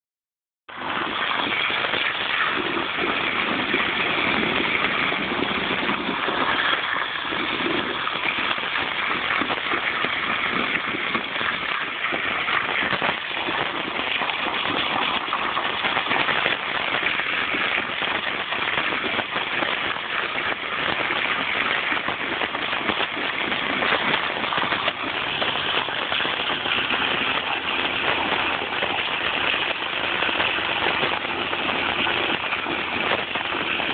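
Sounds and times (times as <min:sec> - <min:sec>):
hose water spattering: 0:00.7 - 0:33.9.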